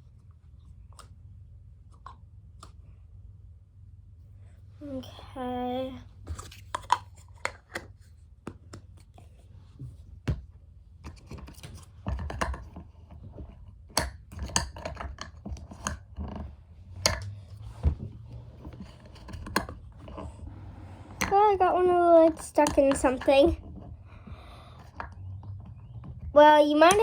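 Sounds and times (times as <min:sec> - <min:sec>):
hands working play dough: 0:00.0 - 0:27.0.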